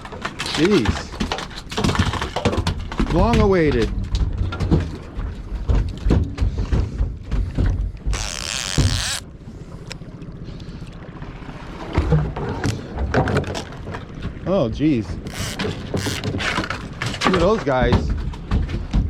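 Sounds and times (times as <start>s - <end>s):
knocks and thumps aboard boat: 0.0s - 10.2s, 11.1s - 19.0s
low steady rumble: 2.6s - 18.5s.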